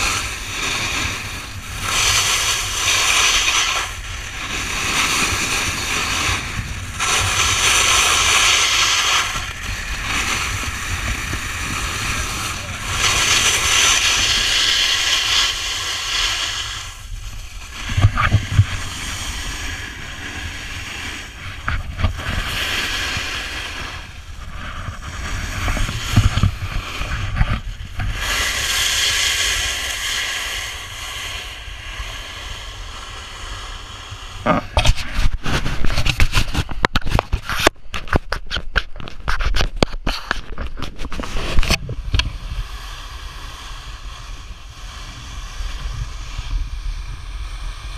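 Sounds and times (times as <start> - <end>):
snowboard scraping on snow: 0.0 - 38.0, 38.8 - 47.9
wind on microphone: 0.0 - 47.9.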